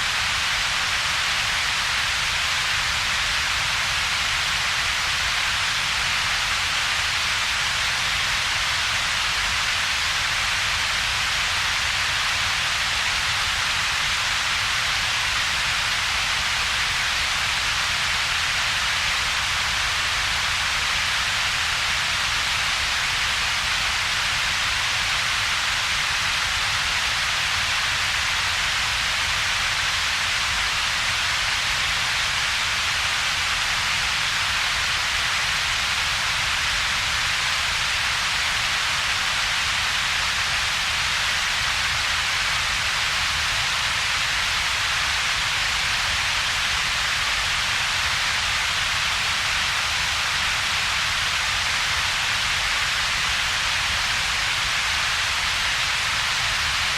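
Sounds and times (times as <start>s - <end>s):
steady synthetic hiss: 0.0s - 56.9s.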